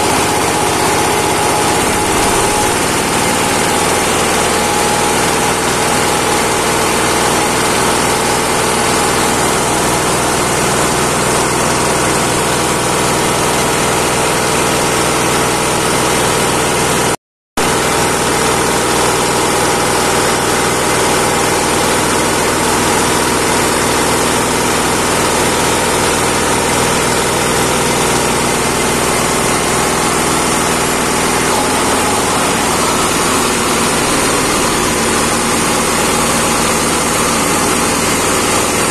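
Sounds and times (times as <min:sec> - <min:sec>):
hammer mill grinding: 0:00.0 - 0:38.9.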